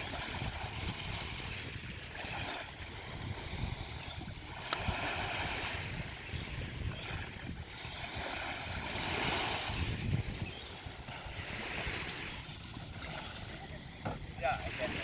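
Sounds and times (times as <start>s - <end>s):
small waves washing on beach: 0.0s - 15.0s
wind rumbling on microphone: 0.0s - 15.0s.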